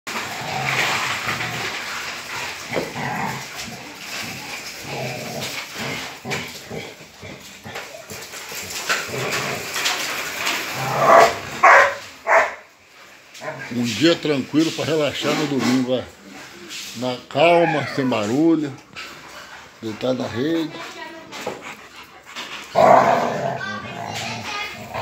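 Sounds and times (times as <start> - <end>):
dogs growling and snarling: 0.1 - 12.6, 13.3 - 25.0.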